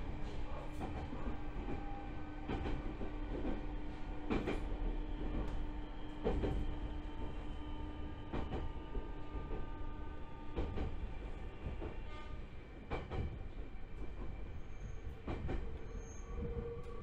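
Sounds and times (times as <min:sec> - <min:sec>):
train motor hum and rolling: 0:00.0 - 0:17.0.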